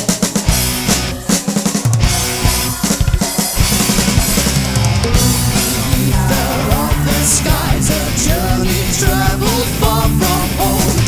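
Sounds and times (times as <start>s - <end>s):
drum kit and bass beat: 1.9s - 11.0s.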